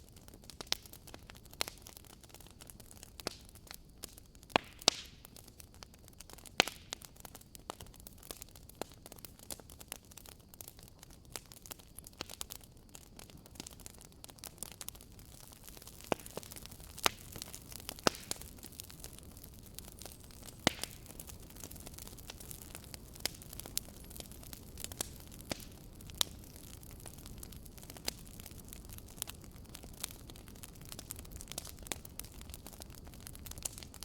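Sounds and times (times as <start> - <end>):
campfire crackling and popping: 0.0 - 34.0
fire soft hiss: 0.0 - 34.0.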